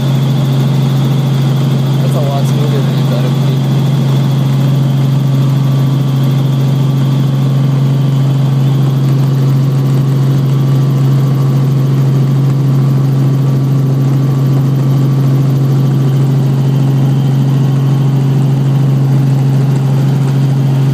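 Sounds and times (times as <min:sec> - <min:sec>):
helicopter rotor and engine drone: 0:00.0 - 0:20.9.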